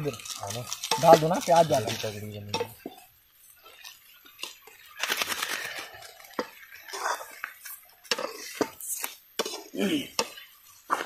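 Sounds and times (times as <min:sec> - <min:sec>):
metal spoon scraping a pan: 0:00.0 - 0:11.0.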